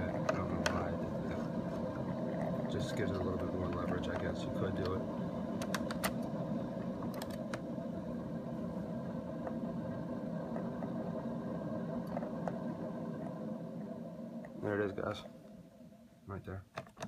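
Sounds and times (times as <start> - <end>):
coffee machine humming: 0.0 - 17.0.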